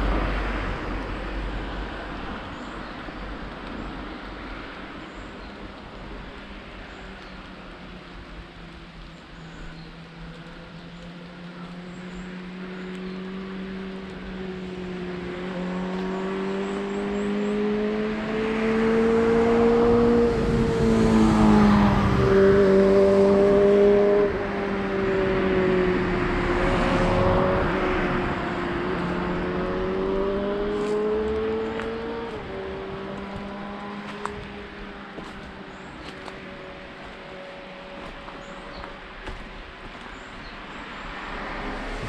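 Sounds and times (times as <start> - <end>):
vehicle engine humming: 0.0 - 42.0.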